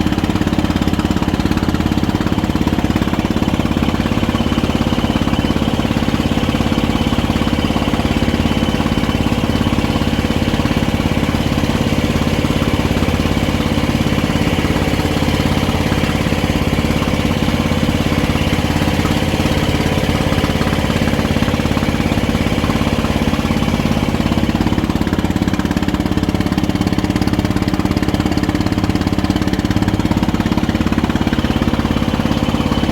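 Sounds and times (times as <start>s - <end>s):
motorboat engine droning: 0.0s - 32.9s.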